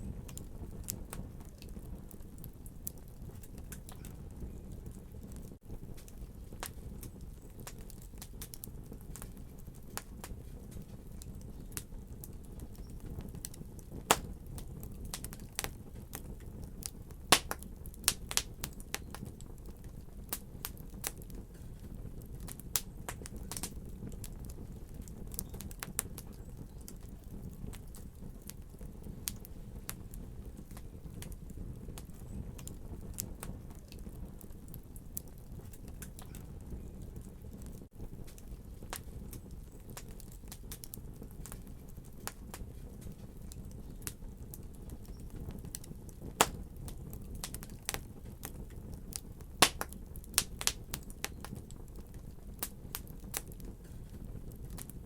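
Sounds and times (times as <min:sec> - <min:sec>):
fire crackling in a fireplace: 0:00.0 - 0:55.0
sharp pops of fire: 0:00.0 - 0:55.0.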